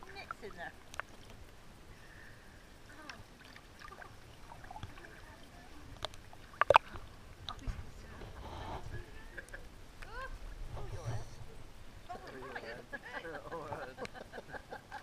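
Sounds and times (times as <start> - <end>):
water lapping and gurgling: 0.0 - 15.0.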